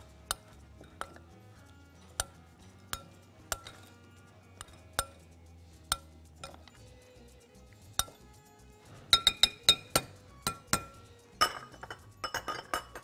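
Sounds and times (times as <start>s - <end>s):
metal spoon clinking against glass bowl: 0.0s - 1.3s, 2.0s - 6.8s, 7.8s - 8.3s, 9.1s - 13.0s.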